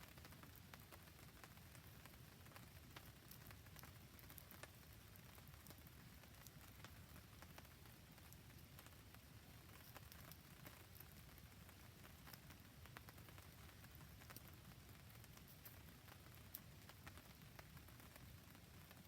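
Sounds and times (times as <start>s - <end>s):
faint rain falling: 0.0s - 19.0s
campfire crackling: 0.1s - 19.0s.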